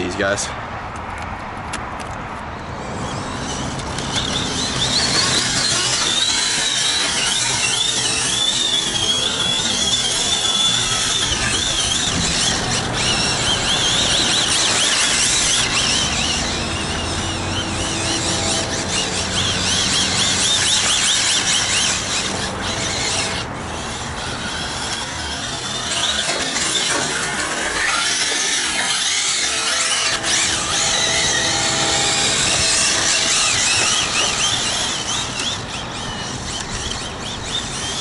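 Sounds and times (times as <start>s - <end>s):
tire noise rush: 0.0s - 38.0s
rc car high squeal: 2.6s - 38.0s.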